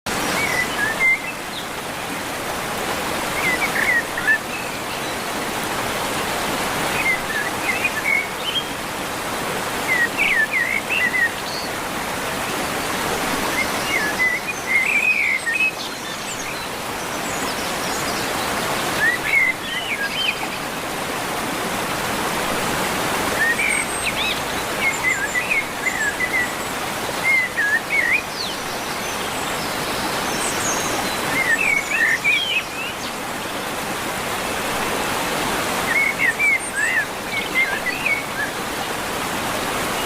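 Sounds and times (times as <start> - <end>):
mountain river rushing: 0.1 - 40.0.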